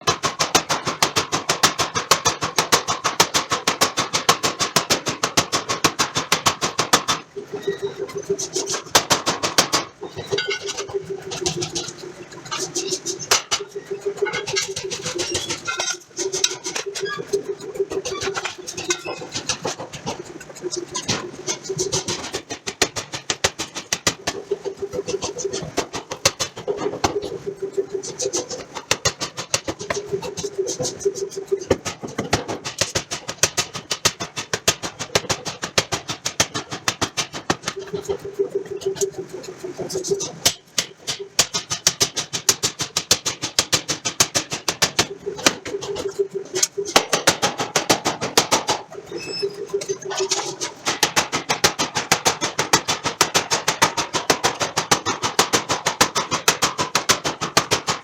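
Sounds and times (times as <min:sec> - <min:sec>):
steady hum: 0:04.7 - 0:58.0.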